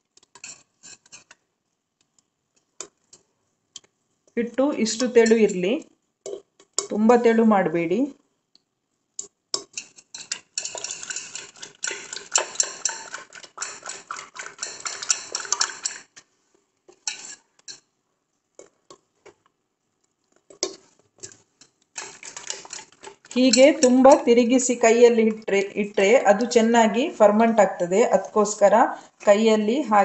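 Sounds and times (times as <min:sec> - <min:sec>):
spoon stirring thick batter: 0:00.0 - 0:07.4, 0:09.2 - 0:17.9, 0:18.5 - 0:29.8.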